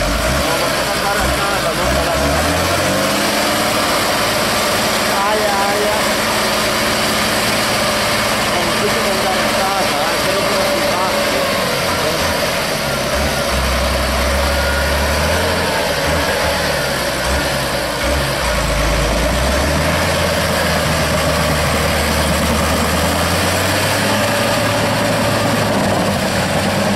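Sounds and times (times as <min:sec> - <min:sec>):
tractor diesel engine under load: 0:00.0 - 0:26.9.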